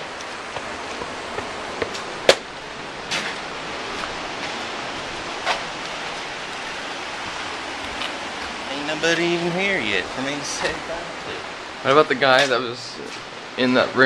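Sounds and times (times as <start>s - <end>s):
ocean surf hiss: 0.0s - 14.0s.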